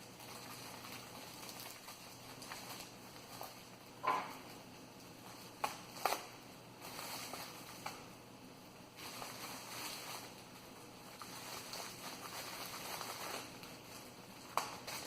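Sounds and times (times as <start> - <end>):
packaging rustling: 0.0 - 8.1, 8.9 - 15.0.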